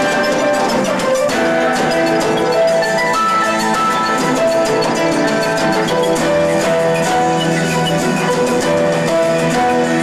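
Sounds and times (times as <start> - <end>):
drums and cymbals: 0.0 - 10.0
electric guitar notes: 0.0 - 10.0
keyboard notes: 0.0 - 10.0.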